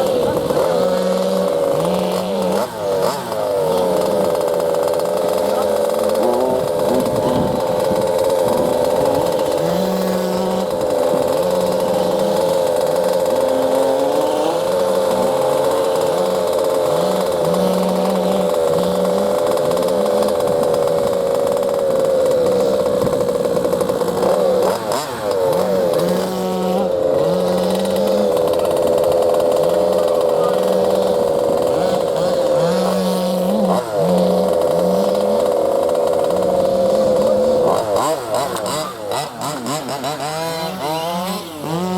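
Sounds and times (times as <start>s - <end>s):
model engine buzzing: 0.0s - 41.9s.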